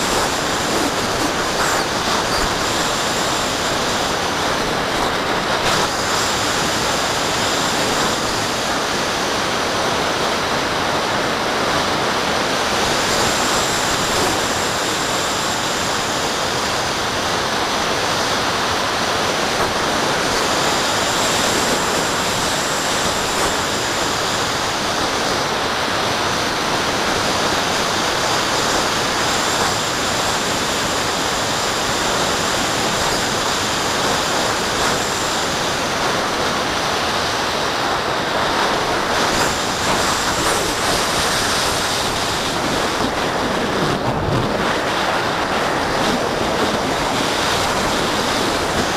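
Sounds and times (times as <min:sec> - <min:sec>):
airflow rushing over microphone: 0:00.0 - 0:48.9
faint high whine: 0:00.0 - 0:48.9.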